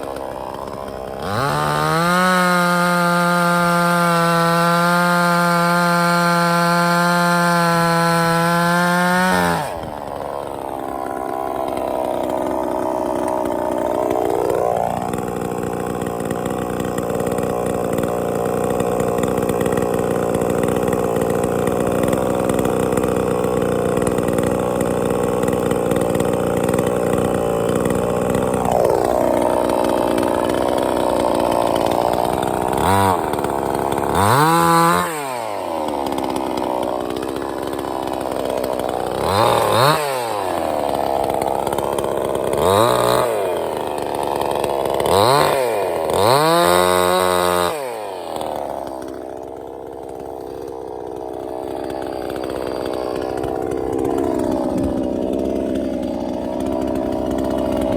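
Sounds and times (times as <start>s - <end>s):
chainsaw sawing wood: 0.0s - 57.9s.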